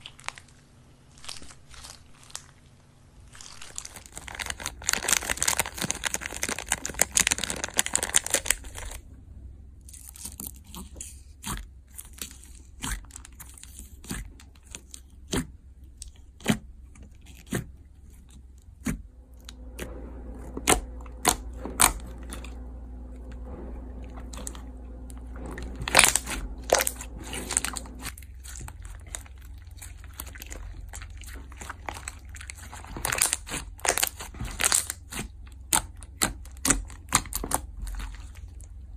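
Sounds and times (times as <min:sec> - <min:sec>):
slime crunchy crinkling: 0:00.0 - 0:09.0, 0:09.8 - 0:38.9.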